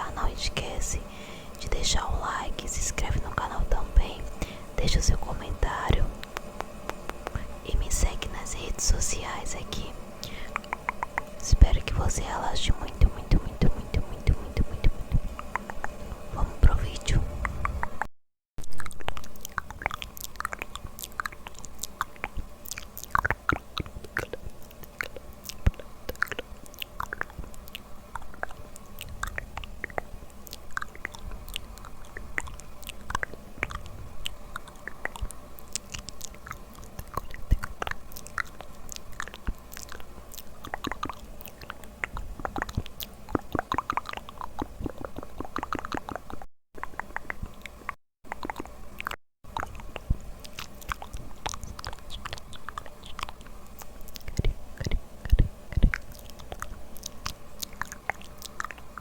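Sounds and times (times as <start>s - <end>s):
lip and tongue clicks: 3.3s - 8.6s, 10.2s - 16.0s, 18.7s - 59.0s.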